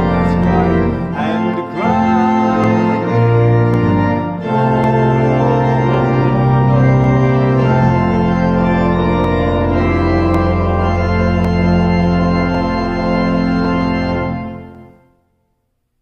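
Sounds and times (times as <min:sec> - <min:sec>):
church organ chords: 0:00.0 - 0:15.4.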